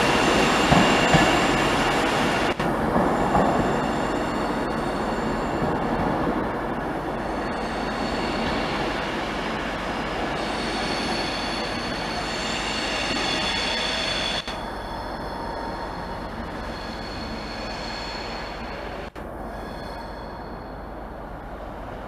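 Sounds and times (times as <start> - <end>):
train wheels squealing on rail: 0.0 - 21.1
train wheels rumbling: 0.0 - 22.0.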